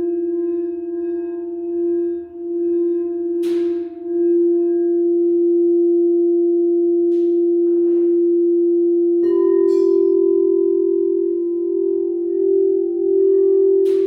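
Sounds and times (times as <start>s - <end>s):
singing bowls ringing: 0.0s - 14.0s.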